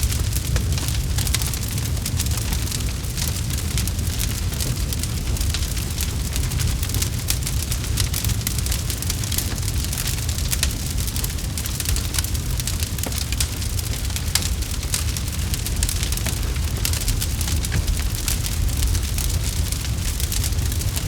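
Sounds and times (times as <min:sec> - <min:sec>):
campfire burning: 0:00.0 - 0:21.0.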